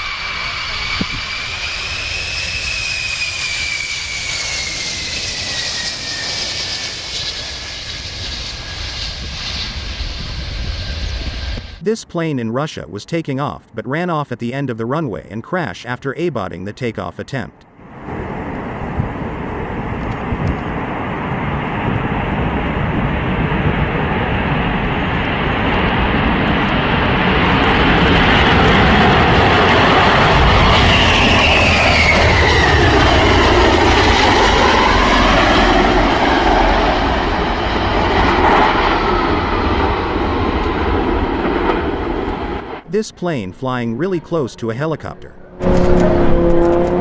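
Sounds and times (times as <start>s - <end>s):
engine whine: 0.0s - 11.8s, 17.6s - 47.0s
jet engines roaring: 0.0s - 13.0s, 17.7s - 47.0s.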